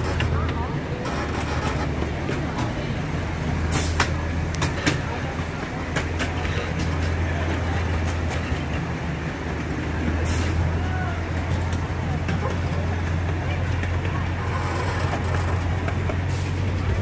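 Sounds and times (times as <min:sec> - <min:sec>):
miniature train engine drone: 0:00.0 - 0:17.0
train wheels clicking on rails: 0:00.0 - 0:17.0.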